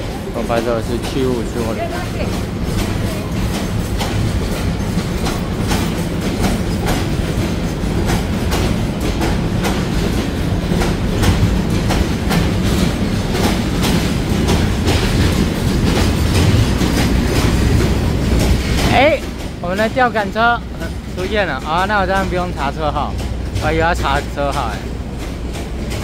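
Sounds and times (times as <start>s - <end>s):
freight train rumbling: 0.0s - 26.0s
wheel clacks over rail joints: 0.0s - 26.0s.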